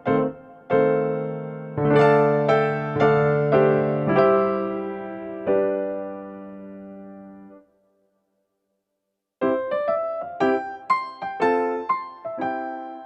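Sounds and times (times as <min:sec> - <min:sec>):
gentle piano music: 0:00.0 - 0:07.8, 0:09.4 - 0:13.0.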